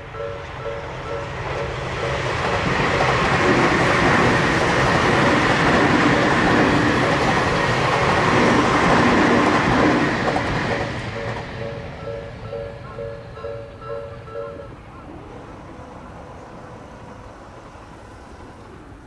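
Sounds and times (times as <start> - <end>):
electric train passing at speed: 0.0 - 19.0.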